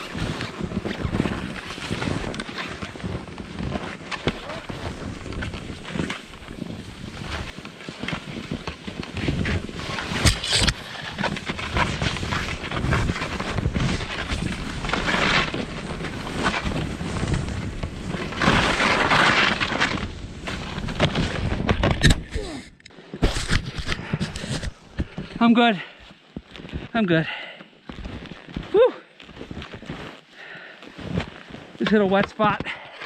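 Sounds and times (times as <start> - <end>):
skis scraping through snow: 0.0 - 21.9, 23.0 - 33.0.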